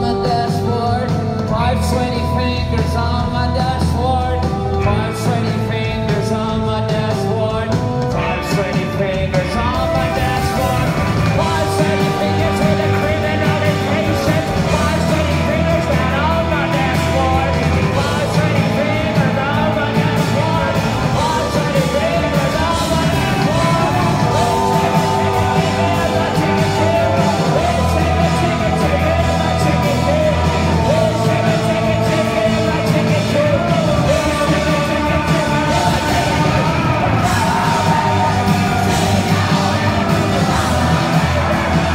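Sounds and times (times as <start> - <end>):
bass guitar: 0.0 - 41.9
drums: 0.0 - 41.9
electric guitars: 0.0 - 41.9
man singing: 0.0 - 41.9.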